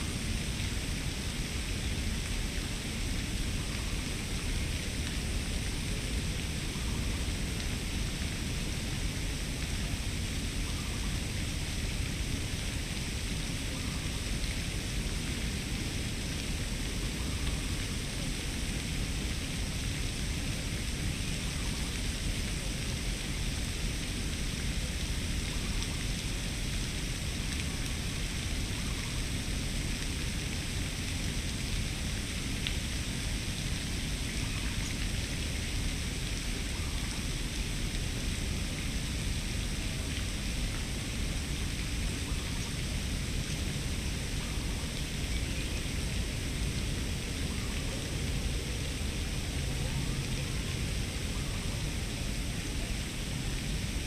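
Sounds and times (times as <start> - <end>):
outdoor hiss: 0.0 - 54.0.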